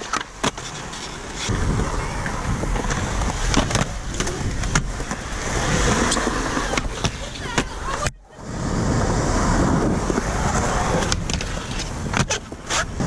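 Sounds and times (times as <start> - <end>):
skateboard clacking on ground: 0.0 - 8.2, 10.0 - 13.0
skateboard wheels rolling on concrete: 0.0 - 13.0.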